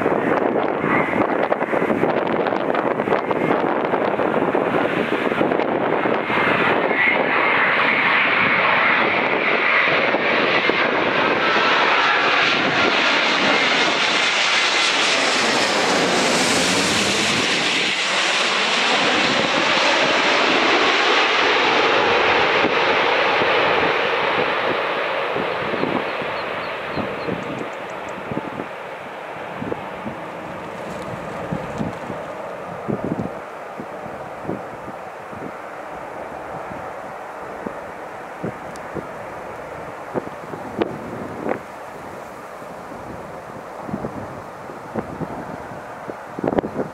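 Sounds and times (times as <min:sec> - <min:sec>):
jet airliner passing overhead: 0:00.0 - 0:46.9.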